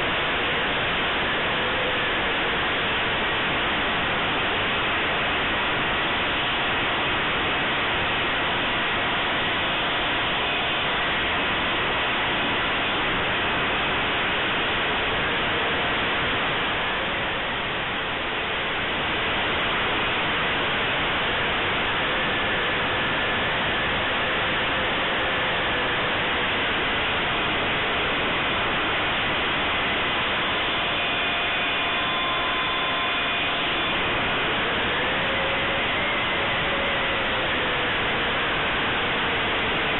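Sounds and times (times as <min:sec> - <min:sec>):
electric fan and air rushing: 0:00.0 - 0:39.9.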